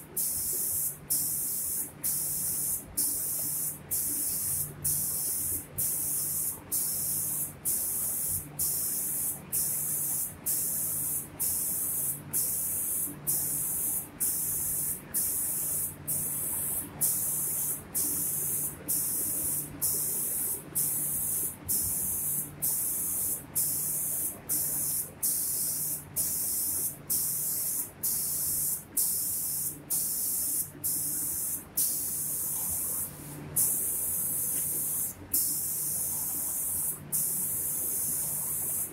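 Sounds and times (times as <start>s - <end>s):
spray gun hissing: 0.1s - 38.9s.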